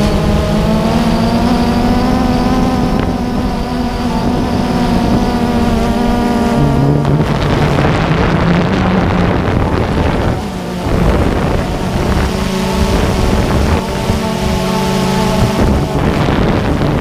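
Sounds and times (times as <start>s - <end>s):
drone propellers whirring: 0.0s - 17.0s
wind buffeting microphone: 0.0s - 17.0s.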